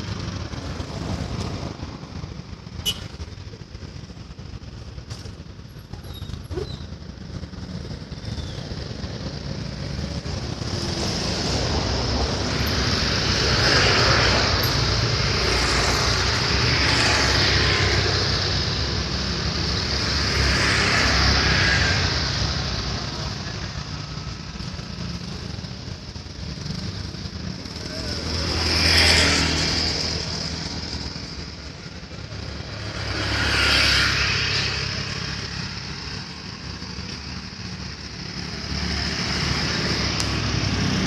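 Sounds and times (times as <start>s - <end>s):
passing vehicles: 0.0s - 41.0s.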